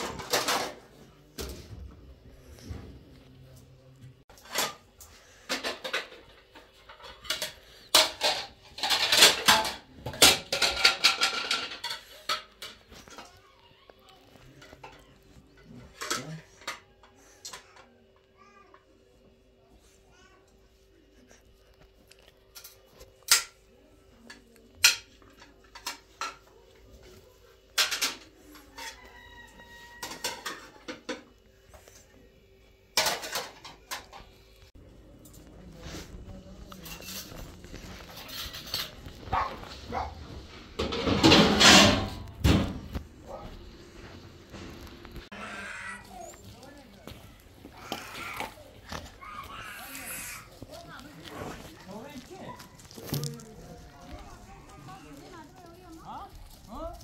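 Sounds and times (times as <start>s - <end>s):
dishes and utensils clattering: 0.0s - 2.0s, 4.3s - 13.5s, 14.4s - 18.0s, 22.2s - 32.1s, 32.9s - 55.4s.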